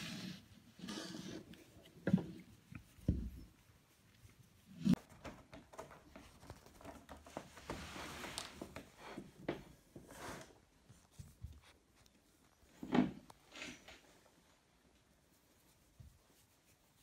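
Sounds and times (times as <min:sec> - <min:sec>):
cat rustling in a box: 0:00.0 - 0:14.6.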